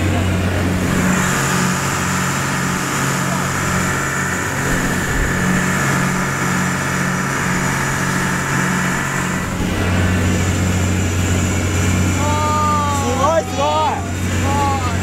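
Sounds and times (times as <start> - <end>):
boat engine running: 0.0 - 15.0
wind and water noise: 0.0 - 15.0.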